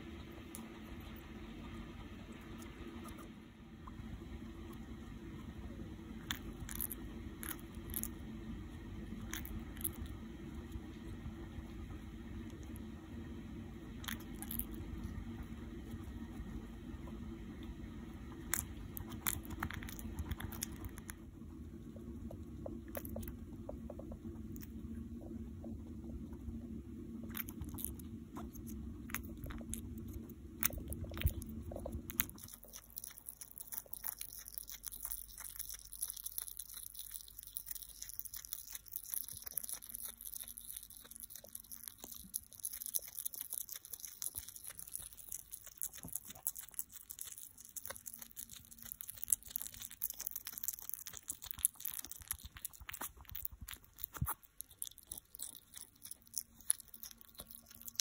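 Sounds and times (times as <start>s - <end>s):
low hum: 0.0s - 58.0s
hedgehog chewing: 3.9s - 12.9s, 13.9s - 58.0s.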